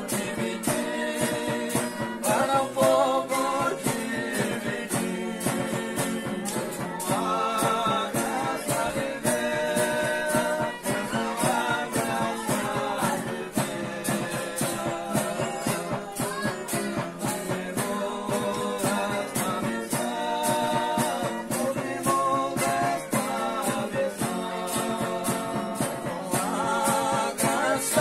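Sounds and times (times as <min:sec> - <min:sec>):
men singing together: 0:00.0 - 0:28.0
steady percussion beat: 0:00.0 - 0:28.0
strummed string instrument: 0:00.0 - 0:28.0.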